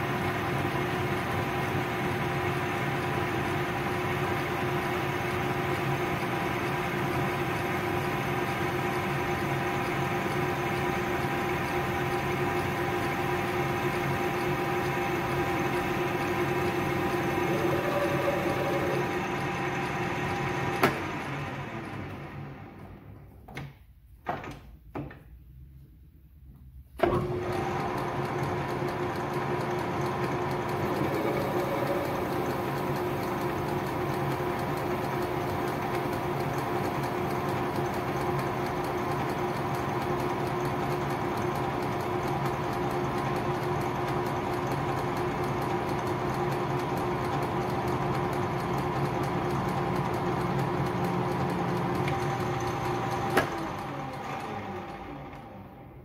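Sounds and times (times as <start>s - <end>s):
lathe motor humming and whining: 0.0s - 23.0s, 27.0s - 56.0s.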